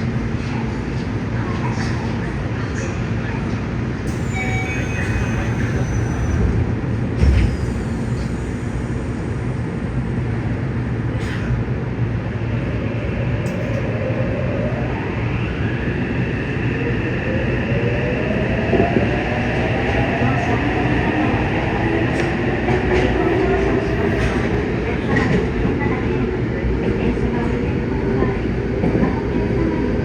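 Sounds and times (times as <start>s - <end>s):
subway train running: 0.0s - 30.0s.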